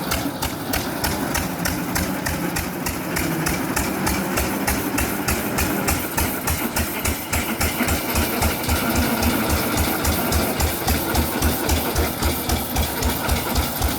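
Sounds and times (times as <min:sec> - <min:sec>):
single-cylinder engine thumping: 0:00.0 - 0:13.9.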